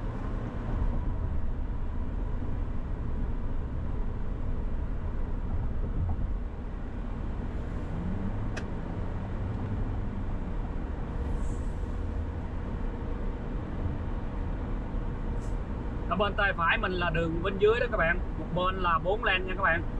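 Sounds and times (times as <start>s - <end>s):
car road and engine noise: 0.0s - 19.9s.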